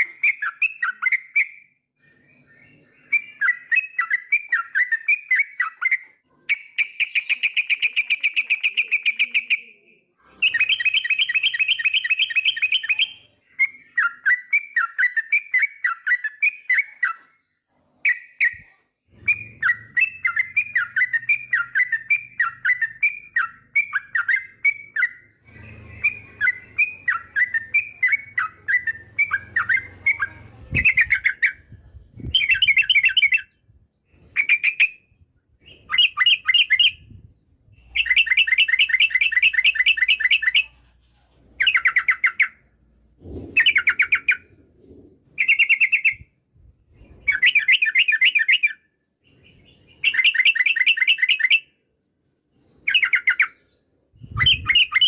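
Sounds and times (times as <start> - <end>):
bird singing chirps and trills: 0.0 - 46.3, 46.9 - 51.7, 52.6 - 55.0.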